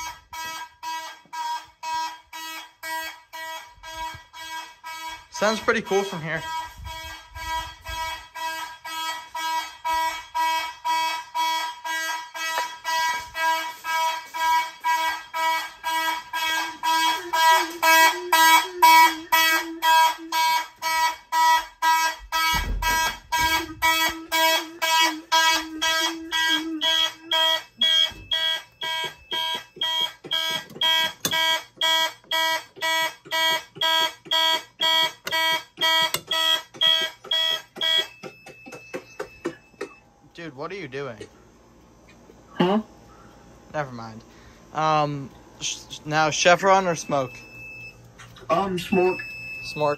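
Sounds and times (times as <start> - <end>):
fire alarm horns pulsing: 0.0 - 49.9.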